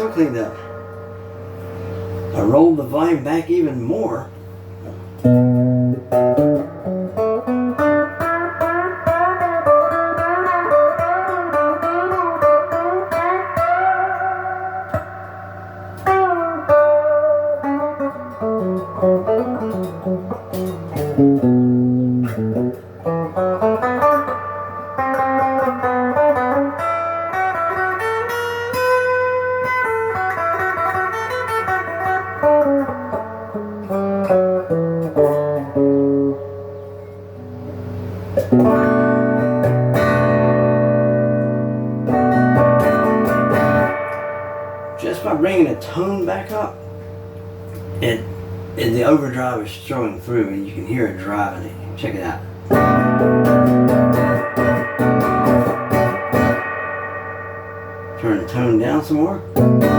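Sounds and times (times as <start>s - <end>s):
overdriven electric guitar: 0.0s - 2.3s, 4.6s - 48.7s, 52.5s - 59.9s.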